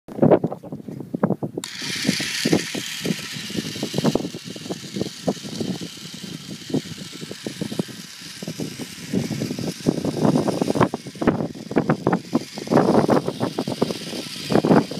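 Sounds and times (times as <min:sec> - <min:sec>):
wind gusts on microphone: 0:00.1 - 0:14.9
toy car motor whirring: 0:01.6 - 0:14.9.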